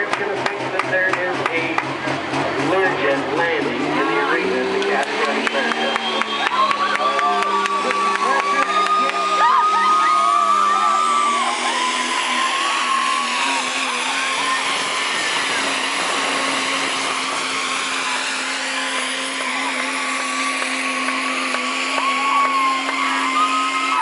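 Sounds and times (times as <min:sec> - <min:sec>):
diesel truck engine running hard: 0:00.0 - 0:24.0
voices: 0:00.0 - 0:24.0.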